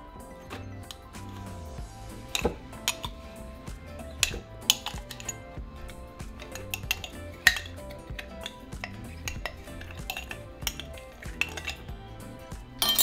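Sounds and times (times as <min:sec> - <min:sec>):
quiet background music: 0:00.0 - 0:13.0
clinks and scrapes on glass jar: 0:00.4 - 0:03.4, 0:04.0 - 0:13.0.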